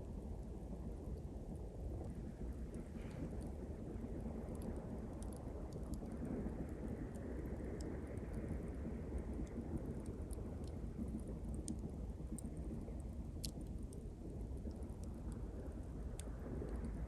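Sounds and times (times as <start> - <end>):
campfire crackling and popping: 1.0 - 17.0.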